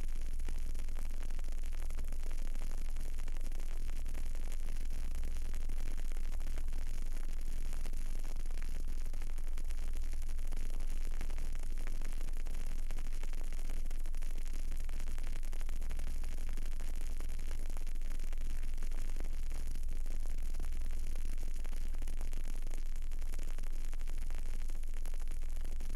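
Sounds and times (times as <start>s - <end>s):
low hum and hiss: 0.0s - 25.9s.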